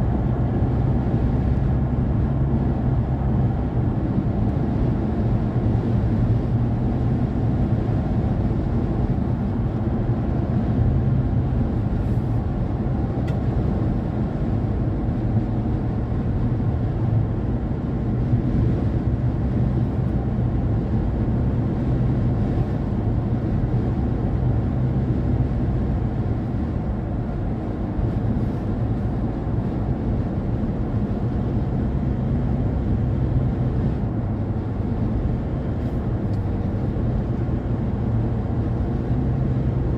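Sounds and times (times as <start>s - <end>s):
car driving road rumble: 0.0s - 39.9s.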